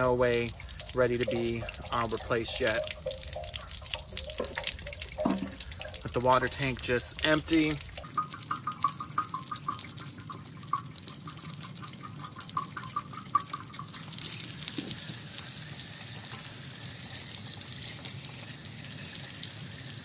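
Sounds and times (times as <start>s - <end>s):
water gurgling and rushing from tank: 0.0s - 20.0s.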